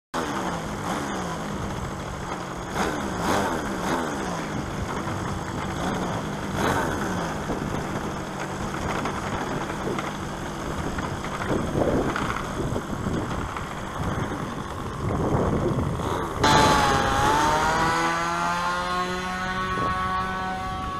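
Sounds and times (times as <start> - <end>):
model plane two-stroke engine: 0.2 - 20.9.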